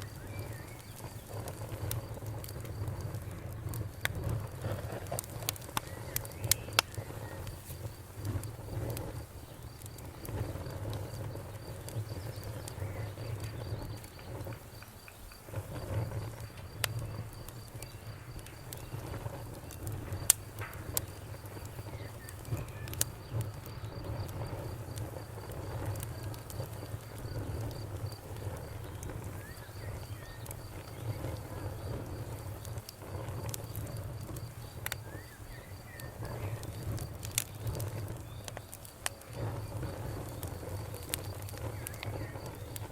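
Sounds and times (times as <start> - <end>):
bonfire crackling: 0.0 - 42.9
cricket chirping: 0.0 - 42.9.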